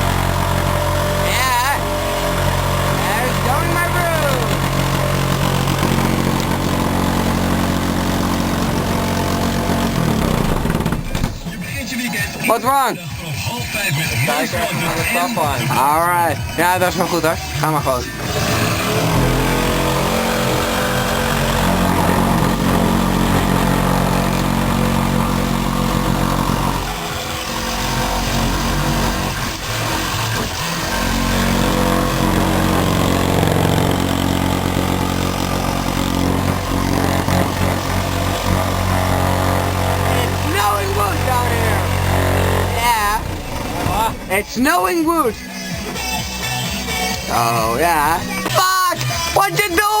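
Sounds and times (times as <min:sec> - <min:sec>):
motor humming: 0:00.0 - 0:13.0, 0:13.8 - 0:49.4
engine running: 0:00.0 - 0:50.0.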